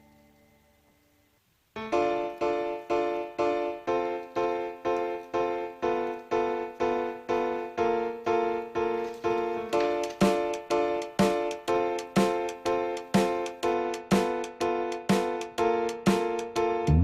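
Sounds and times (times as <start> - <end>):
keyboard chords music: 1.7 - 17.0.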